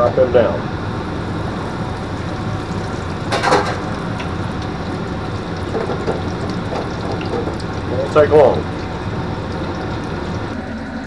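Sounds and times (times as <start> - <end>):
oil bubbling and sizzling in fryer: 0.0 - 11.0.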